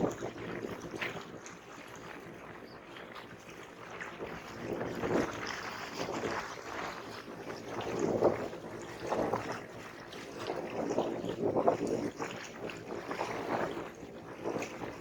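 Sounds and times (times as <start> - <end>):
small waves lapping and splashing: 0.0 - 15.0.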